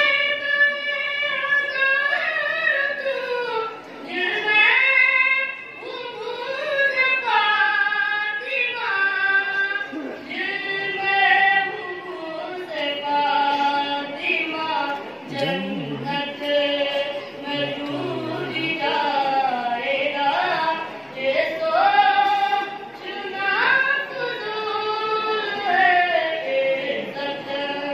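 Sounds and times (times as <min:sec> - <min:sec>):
boy chanting into a microphone: 0:00.0 - 0:27.9.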